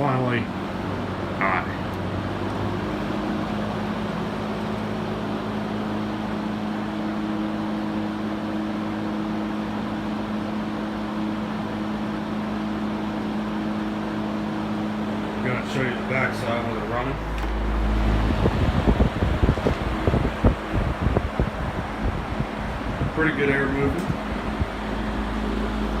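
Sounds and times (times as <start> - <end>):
fan blades rushing air: 0.0 - 26.0
fan motor hum: 0.0 - 26.0.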